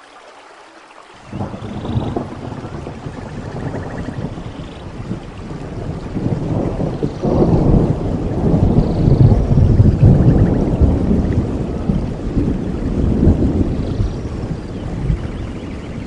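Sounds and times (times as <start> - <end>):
rain: 0.0 - 16.0
rolling thunder rumble: 1.2 - 16.0.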